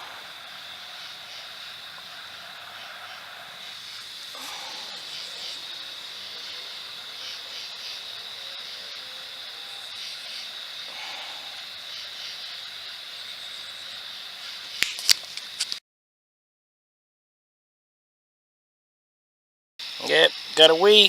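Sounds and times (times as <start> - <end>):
high-pitched hiss with pulsing: 0.0 - 15.8, 19.8 - 21.0.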